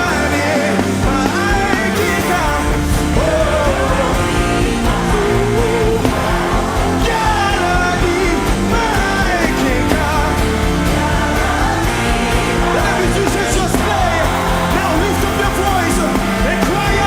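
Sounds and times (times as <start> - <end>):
band playing worship music: 0.0 - 17.0.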